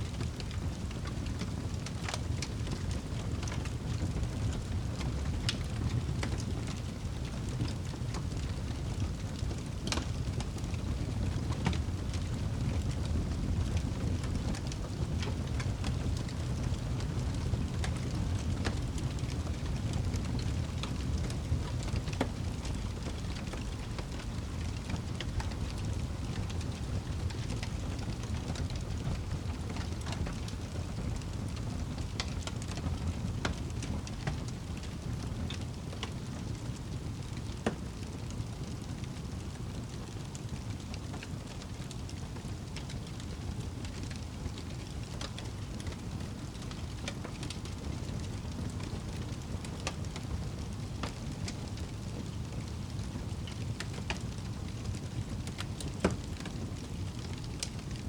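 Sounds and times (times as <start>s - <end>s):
fire crackles and pops: 0.0s - 58.0s
fire rumbling in fireplace: 0.0s - 58.0s.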